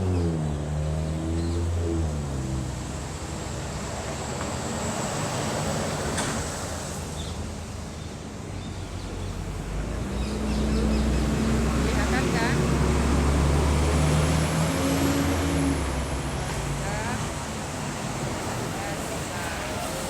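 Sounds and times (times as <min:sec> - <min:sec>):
large vehicle engine: 0:00.0 - 0:20.0
passing road traffic: 0:00.0 - 0:20.0.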